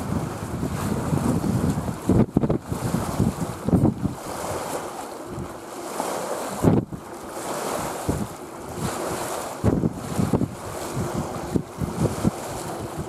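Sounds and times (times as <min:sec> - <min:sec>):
rush of wind: 0:00.0 - 0:13.0
water lapping: 0:00.0 - 0:13.0
wind buffeting the microphone: 0:00.0 - 0:13.0.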